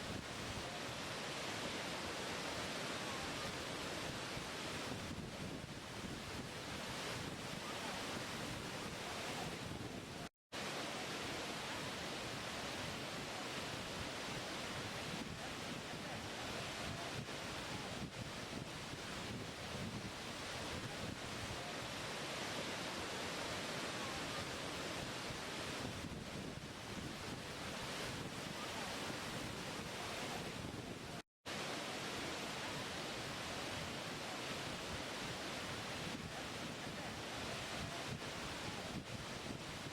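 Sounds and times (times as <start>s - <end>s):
rushing water roar: 0.0s - 39.9s.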